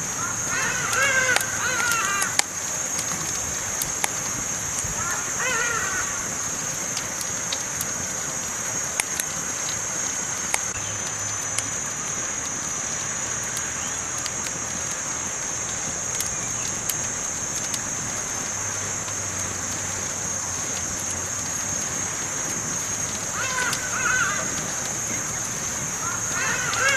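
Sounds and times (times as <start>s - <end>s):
campfire crackling and popping: 0.0s - 26.9s.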